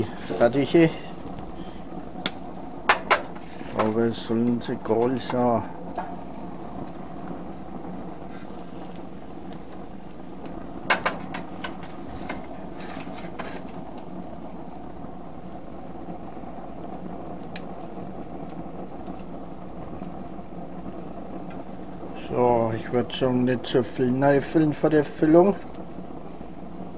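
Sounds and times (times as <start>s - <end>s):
gas grill burners rushing: 0.0s - 26.9s.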